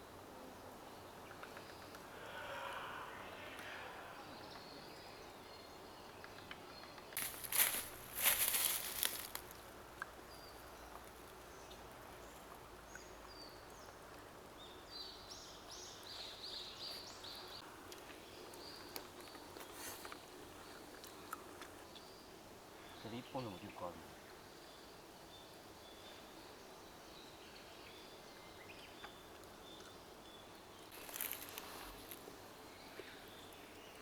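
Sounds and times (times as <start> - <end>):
small birds chirping: 0.6 - 34.0.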